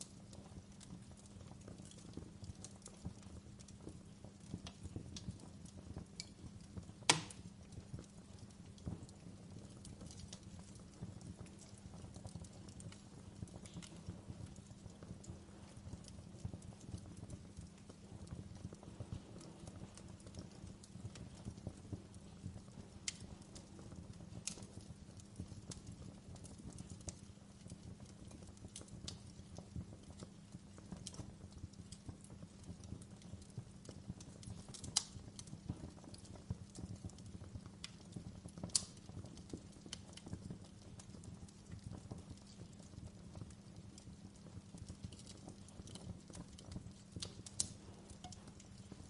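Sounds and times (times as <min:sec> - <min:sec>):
fire popping and snapping: 0:00.0 - 0:49.0
flames rumbling: 0:00.0 - 0:49.0.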